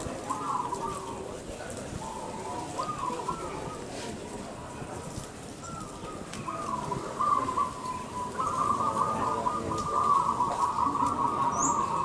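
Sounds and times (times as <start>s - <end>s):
dove cooing: 0.0s - 4.8s, 5.4s - 12.0s.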